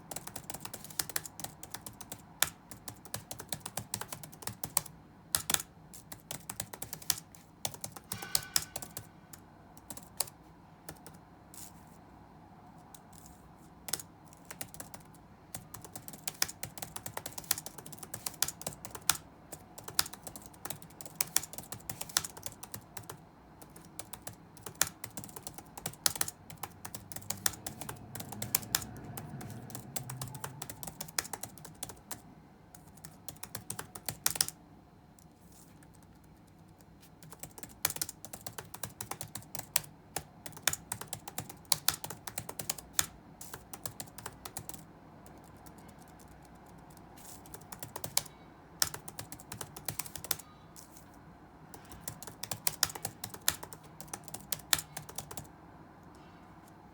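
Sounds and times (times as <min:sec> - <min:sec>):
typing on computer keyboard: 0:00.0 - 0:11.7, 0:12.9 - 0:34.6, 0:35.2 - 0:51.1, 0:51.7 - 0:56.2
faint low background noise: 0:00.0 - 0:56.9.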